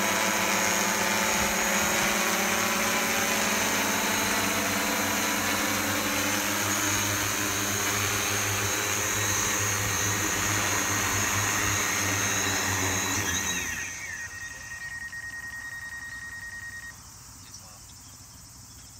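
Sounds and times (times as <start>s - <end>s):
drone rotors droning: 0.0s - 17.0s
thin high tone: 0.0s - 17.0s.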